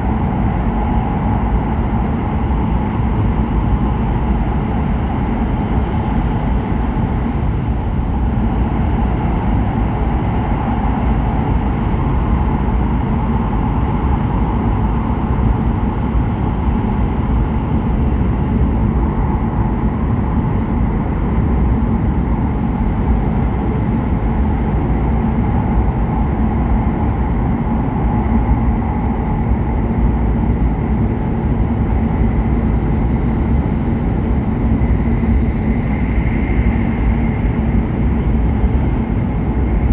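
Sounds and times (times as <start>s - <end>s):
faint steady whine: 0.0s - 39.9s
train running rumble: 0.0s - 39.9s.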